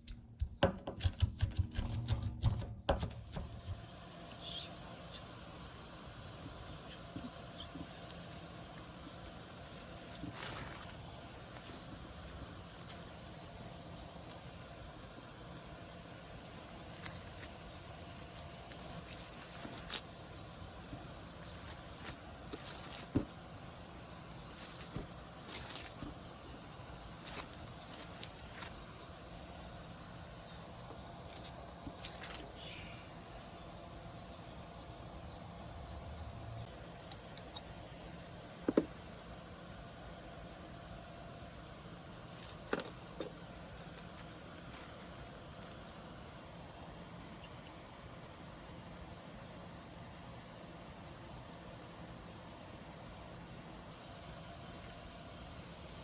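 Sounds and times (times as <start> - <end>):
high-pitched insect chorus: 3.2 - 56.0.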